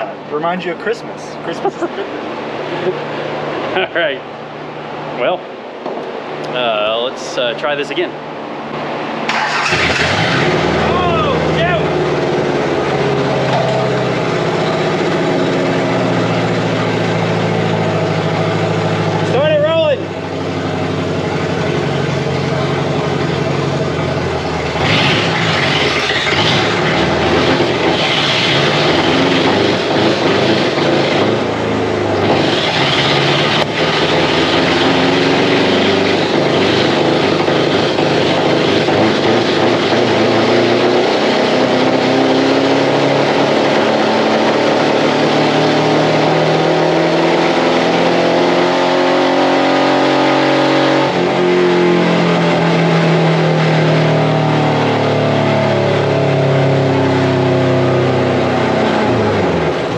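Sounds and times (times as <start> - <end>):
truck engine revving hard: 9.2 - 59.9.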